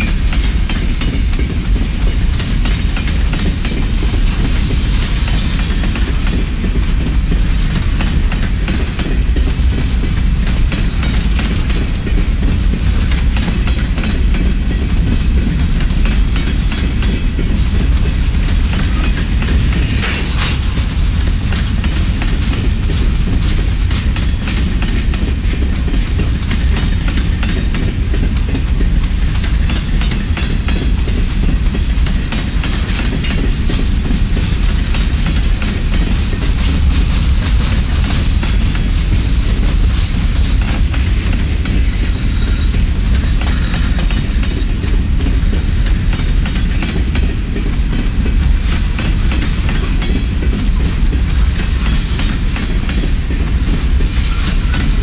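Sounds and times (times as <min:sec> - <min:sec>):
freight train rumbling past: 0:00.0 - 0:55.0
wheels clicking over rail joints: 0:00.0 - 0:55.0.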